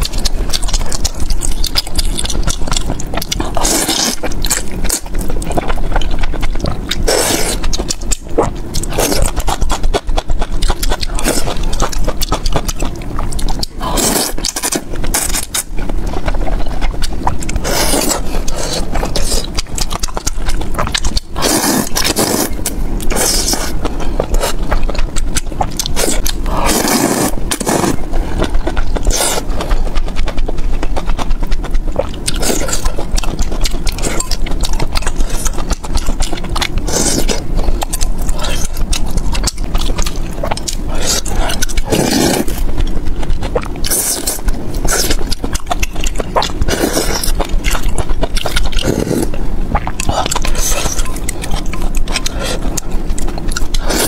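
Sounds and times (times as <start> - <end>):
slurping noodles: 0.0 - 9.8, 10.7 - 29.9, 32.0 - 42.7, 43.3 - 54.0
soft mouth noises: 0.0 - 54.0.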